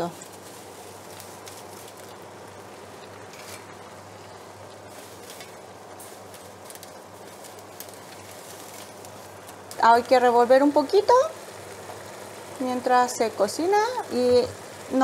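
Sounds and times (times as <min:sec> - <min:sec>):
low steady hum: 0:00.0 - 0:15.0
water boiling in a pot: 0:00.0 - 0:15.0.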